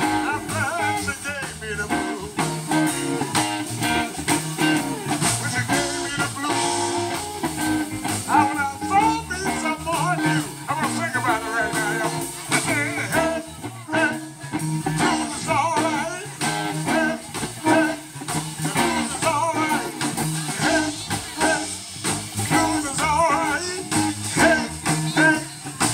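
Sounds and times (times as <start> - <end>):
drums: 0.0 - 25.9
electric guitar: 0.0 - 25.9.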